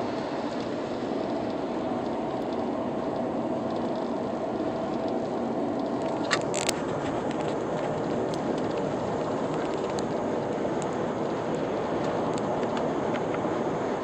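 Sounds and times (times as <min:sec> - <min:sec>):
car road and wind noise: 0:00.0 - 0:14.0
faint steady hum: 0:00.0 - 0:14.0.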